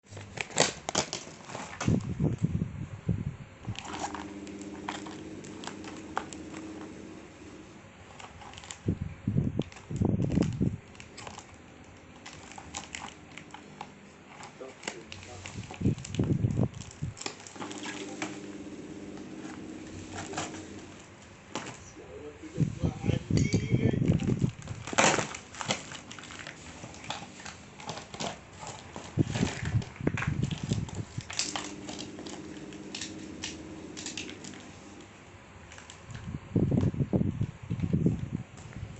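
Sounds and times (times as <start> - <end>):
packaging crackling: 0.0 - 2.4, 3.6 - 36.4
low steady hum: 0.1 - 38.9.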